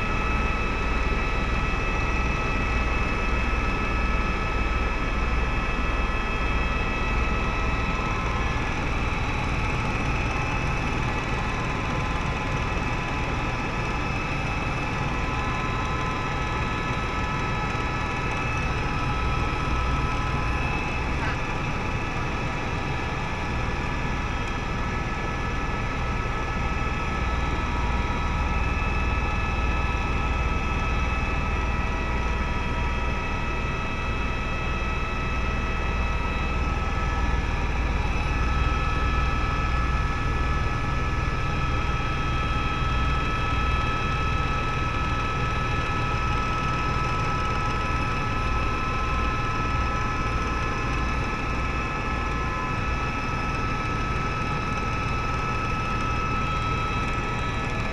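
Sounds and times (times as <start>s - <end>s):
helicopter rotor rumble: 0.0s - 57.9s
high turbine whine: 0.0s - 57.9s.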